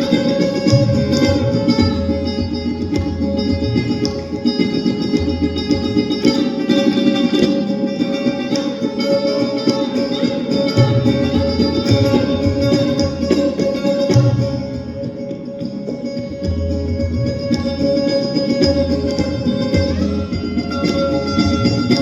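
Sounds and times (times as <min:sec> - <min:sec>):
plucked sitar and sarod melody: 0:00.0 - 0:22.0
tabla bass strokes: 0:00.0 - 0:22.0.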